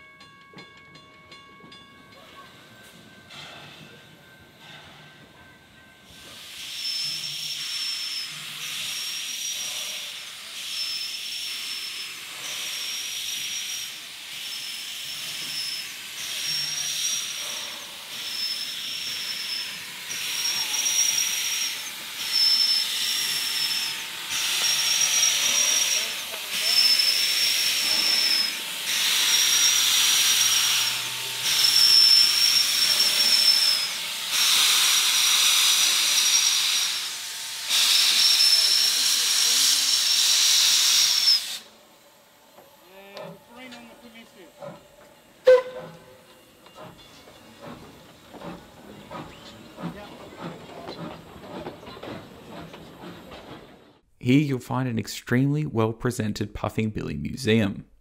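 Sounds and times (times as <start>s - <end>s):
steam locomotive hissing steam: 2.2s - 54.0s.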